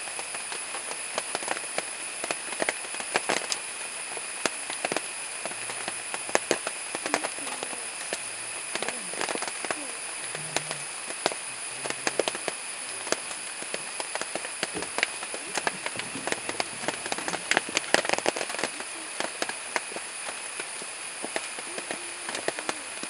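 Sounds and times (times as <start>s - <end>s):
elephants munching leaves: 0.0s - 23.0s
stems snapping and crackling: 0.0s - 23.0s.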